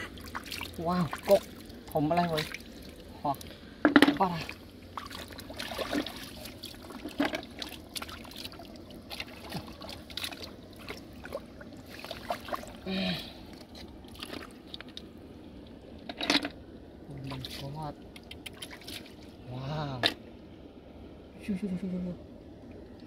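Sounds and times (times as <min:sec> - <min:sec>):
water trickling: 0:00.0 - 0:20.8.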